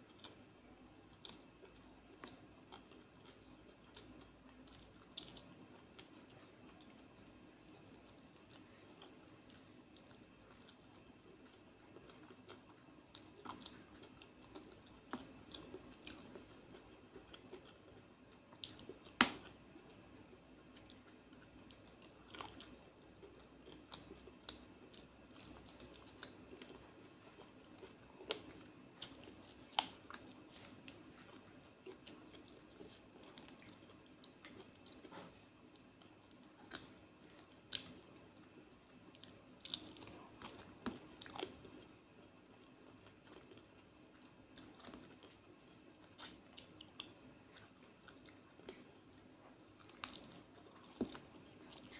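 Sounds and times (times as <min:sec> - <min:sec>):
chewing and mouth sounds: 0:00.0 - 0:51.9.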